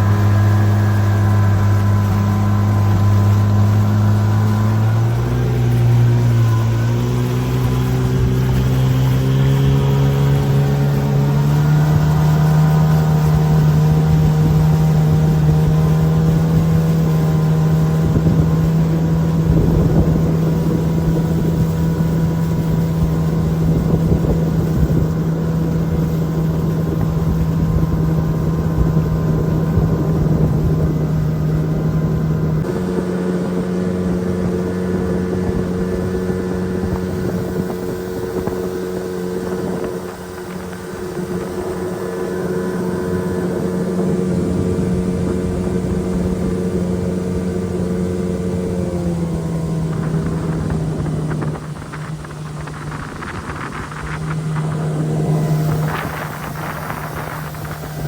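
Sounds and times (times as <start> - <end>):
boat motor running: 0.0 - 58.0
water noise: 0.0 - 58.0.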